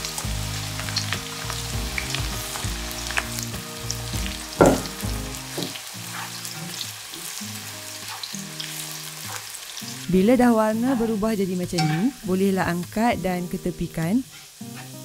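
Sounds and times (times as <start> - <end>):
onions sizzling in hot oil: 0.0 - 15.0
soft background music: 0.0 - 15.0.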